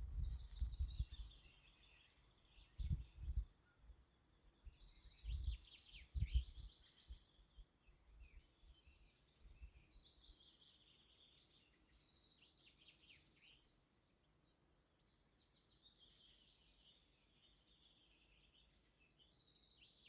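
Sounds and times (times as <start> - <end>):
songbird singing trills: 0.0 - 20.0.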